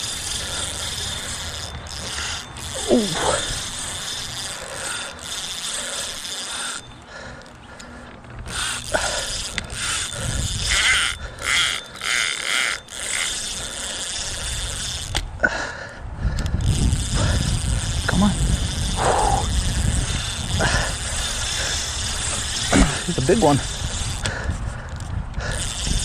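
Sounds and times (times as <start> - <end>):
fishing reel ratcheting and whirring: 0.0 - 26.0.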